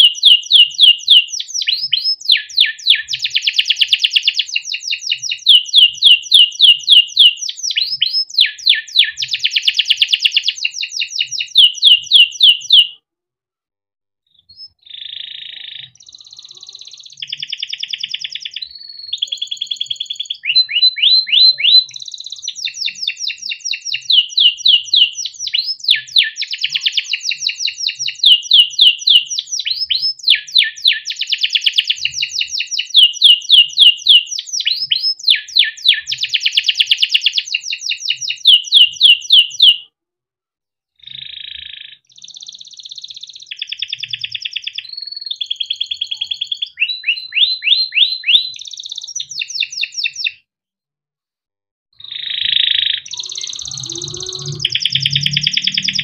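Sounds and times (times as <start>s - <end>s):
canary singing trills: 0.0s - 13.0s, 14.4s - 39.9s, 41.0s - 50.4s, 52.0s - 56.0s.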